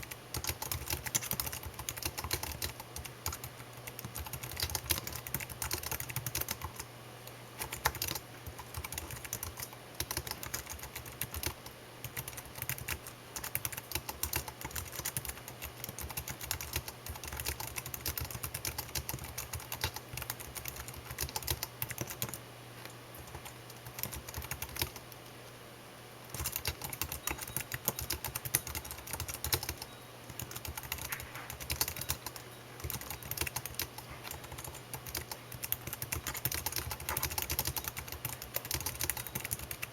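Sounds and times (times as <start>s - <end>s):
computer keyboard typing: 0.0s - 6.9s, 7.6s - 22.4s, 23.2s - 25.1s, 26.3s - 39.9s.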